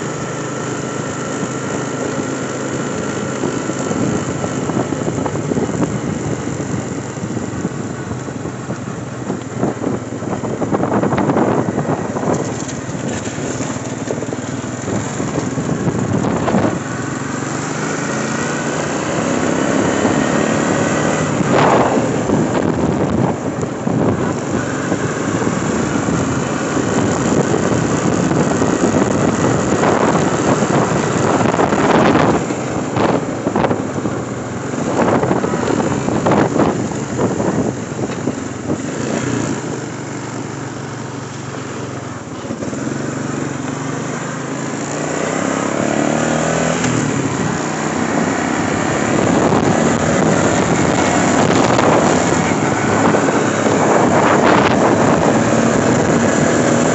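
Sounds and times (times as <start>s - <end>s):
small vehicle engine running: 0.0s - 56.9s
wind buffeting microphone: 3.3s - 40.6s, 44.8s - 56.9s.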